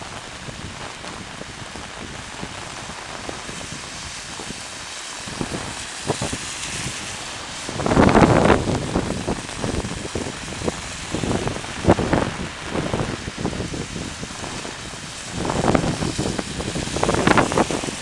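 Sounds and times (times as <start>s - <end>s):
heavy rain: 0.0s - 18.0s
wind buffeting microphone: 0.0s - 18.0s.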